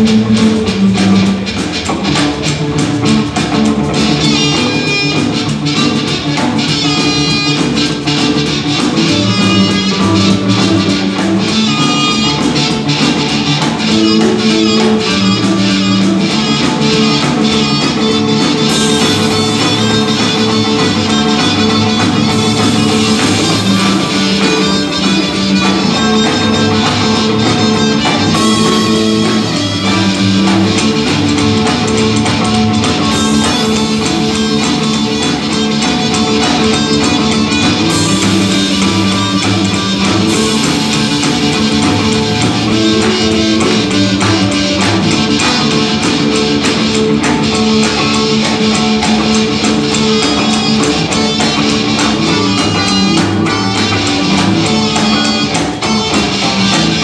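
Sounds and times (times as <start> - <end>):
double bass: 0.0 - 57.0
drum kit: 0.0 - 57.0
electric guitar: 0.0 - 57.0
harmonica through microphone: 4.1 - 57.0.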